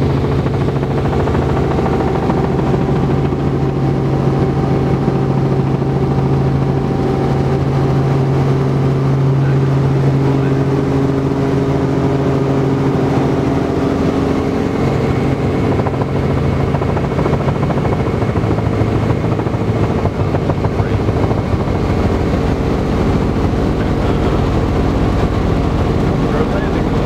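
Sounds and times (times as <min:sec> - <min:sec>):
helicopter drone from cabin: 0:00.0 - 0:27.0.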